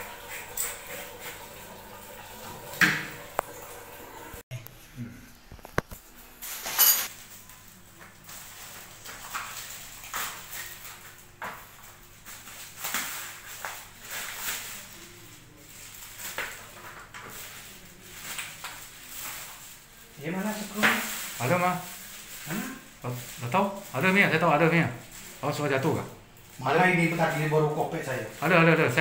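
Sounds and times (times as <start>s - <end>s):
plastic bag crinkling: 5.5s - 29.0s.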